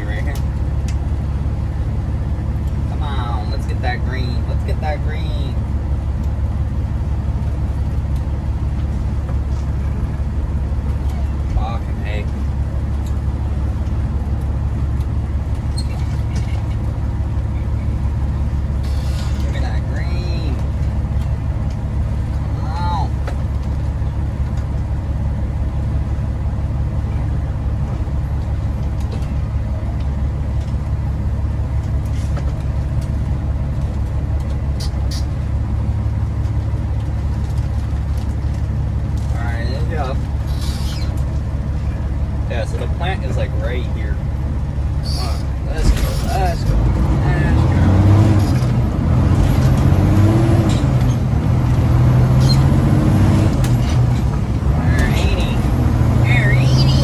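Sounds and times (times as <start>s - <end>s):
truck diesel engine droning: 0.0s - 57.0s.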